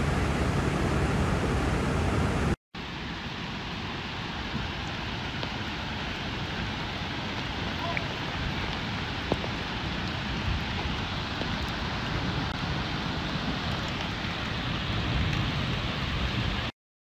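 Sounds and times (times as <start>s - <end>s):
steady rain hiss: 0.0s - 16.7s.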